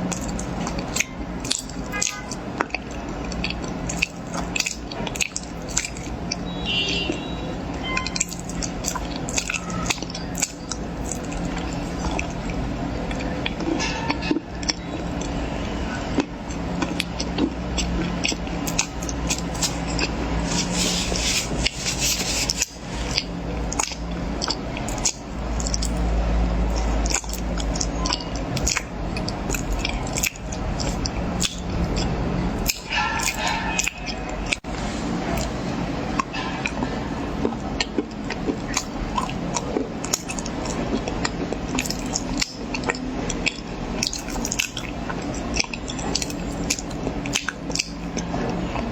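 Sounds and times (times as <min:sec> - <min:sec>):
crunchy chewing of corn: 0:00.0 - 0:15.4, 0:16.1 - 0:48.9.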